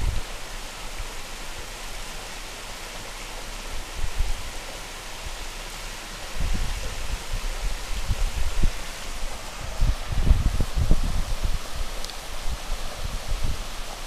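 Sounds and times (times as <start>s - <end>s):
steady outdoor rushing hiss: 0.0s - 14.0s.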